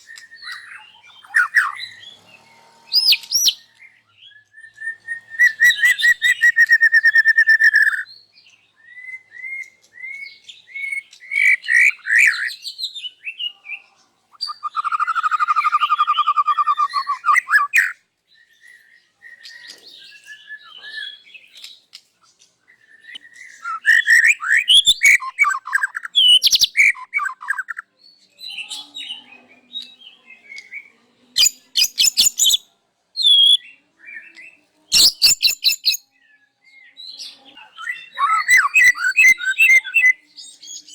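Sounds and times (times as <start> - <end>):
songbird singing whistles and trills: 0.0 - 2.2, 2.9 - 13.6, 14.3 - 21.9, 22.7 - 40.9.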